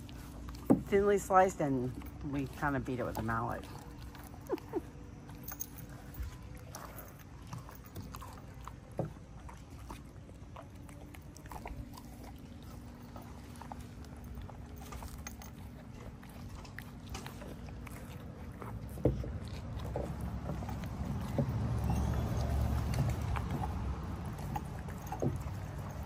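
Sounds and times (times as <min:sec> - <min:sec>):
dogs licking and chewing food: 0:00.0 - 0:26.0.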